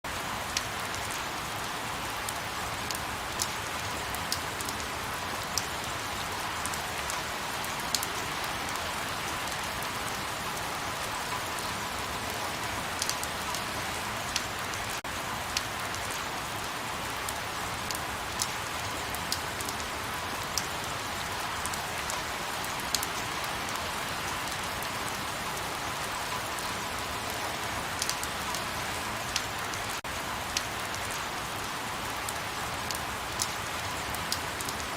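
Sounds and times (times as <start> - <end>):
rain drop ticks: 0.5 - 16.7, 17.3 - 34.9.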